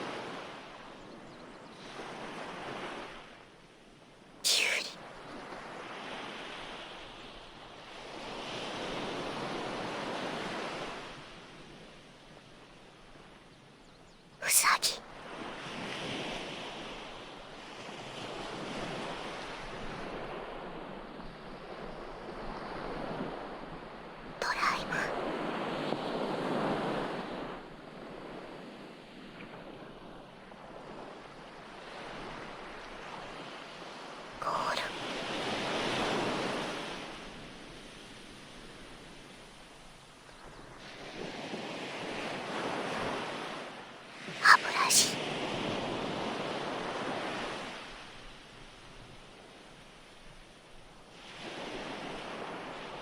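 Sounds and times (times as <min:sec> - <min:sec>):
ocean waves breaking on shore: 0:00.0 - 0:04.4, 0:05.0 - 0:13.4, 0:15.0 - 0:53.0.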